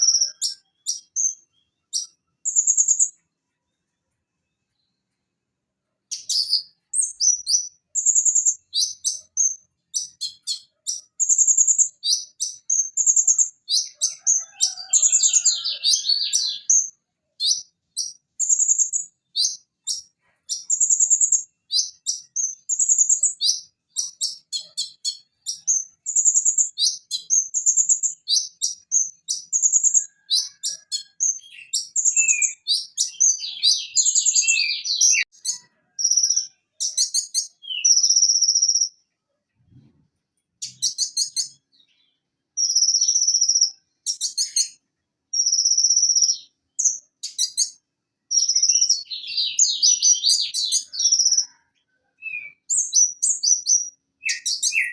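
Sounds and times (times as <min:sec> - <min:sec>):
sunbird chirping and trilling: 0:00.0 - 0:03.8, 0:06.0 - 0:39.2, 0:40.6 - 0:54.9.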